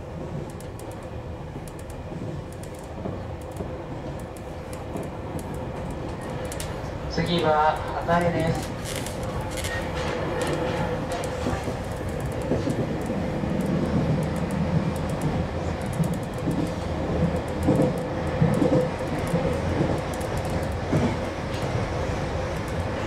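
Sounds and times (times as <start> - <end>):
train hum: 0.0 - 23.0
train wheels rolling on rail: 0.0 - 23.0.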